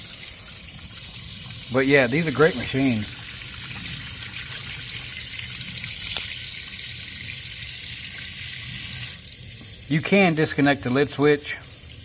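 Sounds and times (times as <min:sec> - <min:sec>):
water running into a tub: 0:00.0 - 0:12.0.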